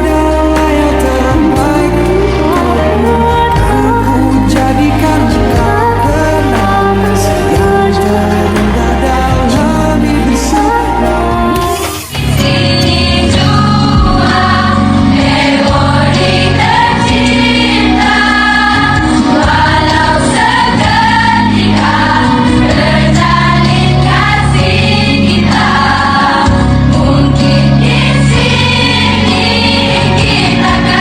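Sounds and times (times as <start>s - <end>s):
sustained bass accompaniment: 0.0s - 31.0s
voices singing together: 0.0s - 31.0s.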